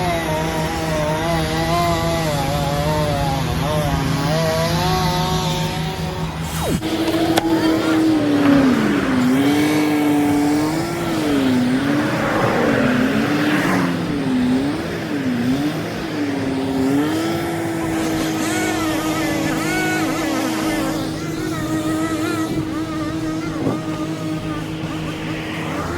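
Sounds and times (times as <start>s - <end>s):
vehicle engine hum: 0.0s - 25.9s.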